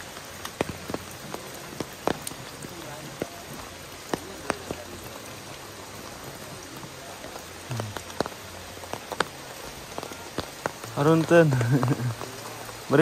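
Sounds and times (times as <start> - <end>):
sharp water drips: 0.0 - 13.0
steady rain falling: 0.0 - 13.0.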